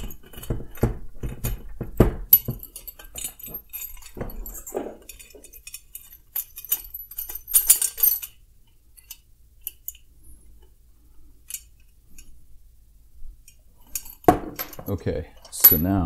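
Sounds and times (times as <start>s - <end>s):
metal clinking and rattling: 0.0s - 10.7s, 11.3s - 12.4s, 13.4s - 16.0s.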